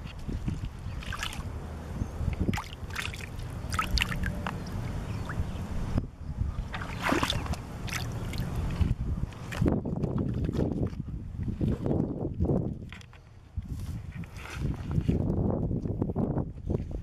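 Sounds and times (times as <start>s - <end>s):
water sloshing at shoreline: 0.0s - 15.2s
wind rumble on microphone: 0.0s - 17.0s.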